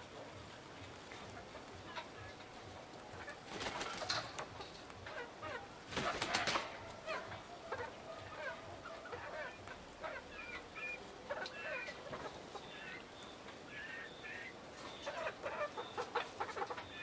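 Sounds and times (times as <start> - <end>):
chickens clucking and chirping: 0.0 - 17.0
wings flapping: 0.0 - 17.0.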